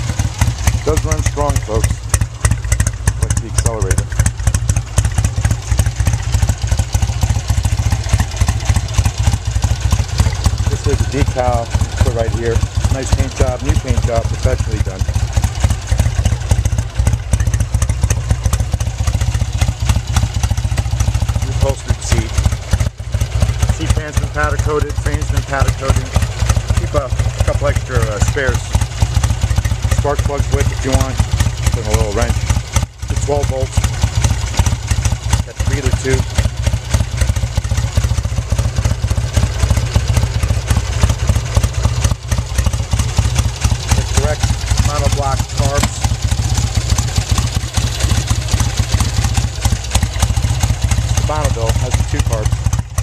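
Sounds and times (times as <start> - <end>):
motorcycle engine idling: 0.0 - 53.0.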